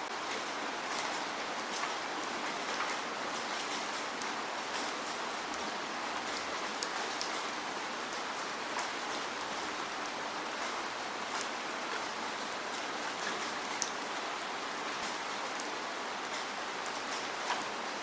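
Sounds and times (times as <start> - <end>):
steady rain with drops ticking: 0.0 - 18.0.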